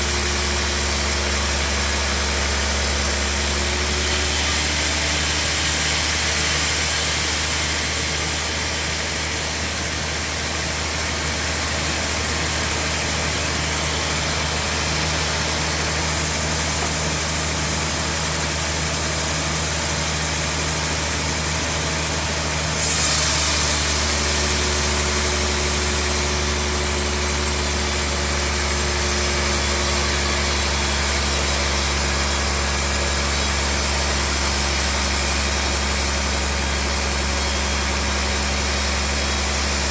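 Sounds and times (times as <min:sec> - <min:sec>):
band saw machinery humming: 0:00.0 - 0:39.9.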